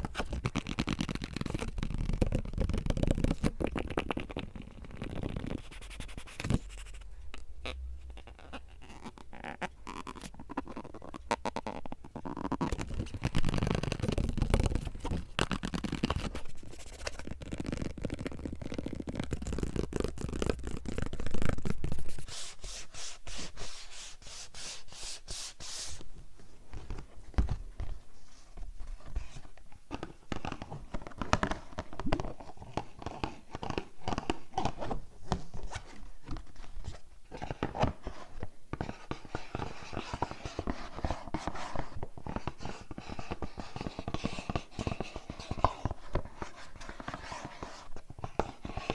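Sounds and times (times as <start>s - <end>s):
scratching and tapping on objects: 0.0s - 22.3s, 28.6s - 48.9s.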